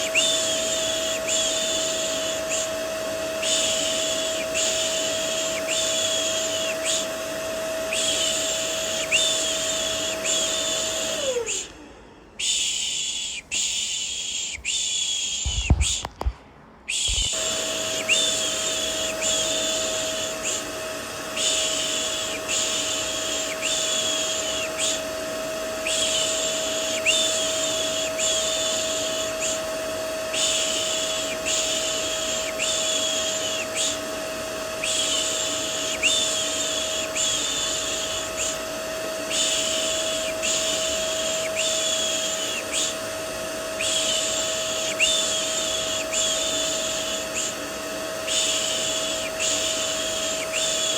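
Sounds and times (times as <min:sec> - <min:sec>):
vacuum cleaner humming: 0:00.0 - 0:16.3, 0:16.9 - 0:50.9.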